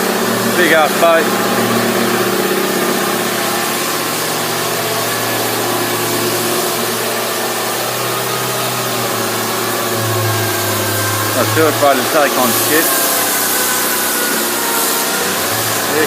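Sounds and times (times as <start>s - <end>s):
power sander running: 0.0s - 16.0s.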